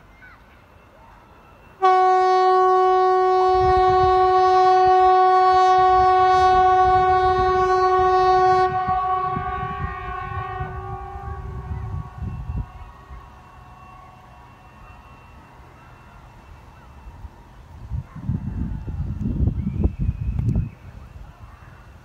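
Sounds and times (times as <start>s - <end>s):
outdoor warning siren: 1.2s - 20.1s.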